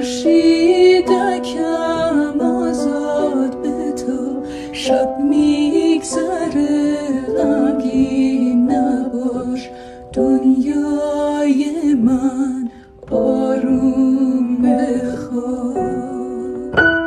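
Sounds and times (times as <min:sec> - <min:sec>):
upright piano accompaniment: 0:00.0 - 0:17.0
women singing a lullaby: 0:00.0 - 0:17.0.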